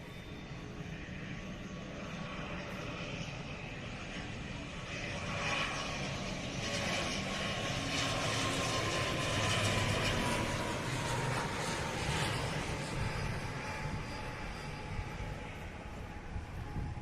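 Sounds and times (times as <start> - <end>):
turboprop airliner droning: 0.0 - 17.0.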